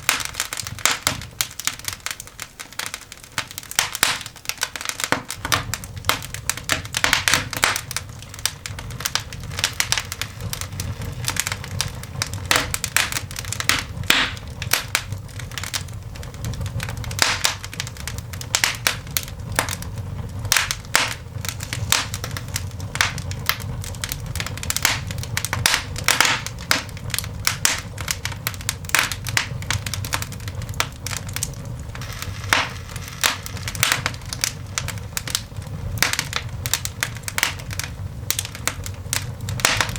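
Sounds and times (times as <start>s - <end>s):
coal fire crackling and popping: 0.0s - 39.9s
low rumble of flames: 0.0s - 39.9s.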